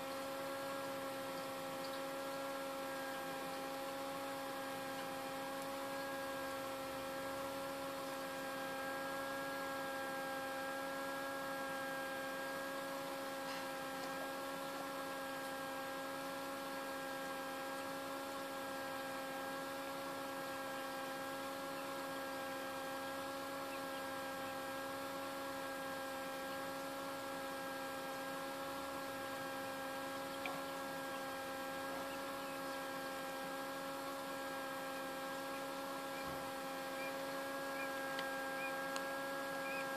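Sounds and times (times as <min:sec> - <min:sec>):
incubator fan motor humming: 0:00.0 - 0:39.9.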